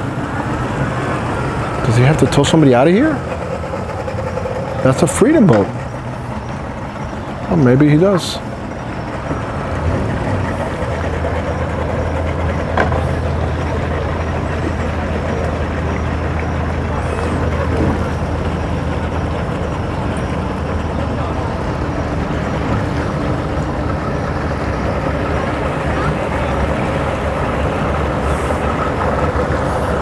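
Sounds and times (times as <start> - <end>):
outboard motor idling: 0.0 - 30.0.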